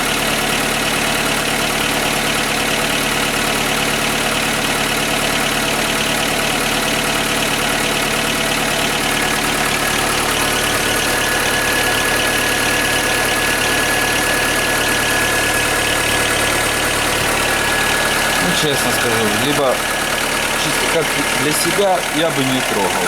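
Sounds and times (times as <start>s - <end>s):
car engine idling: 0.0s - 23.0s
light engine knock: 0.0s - 23.0s.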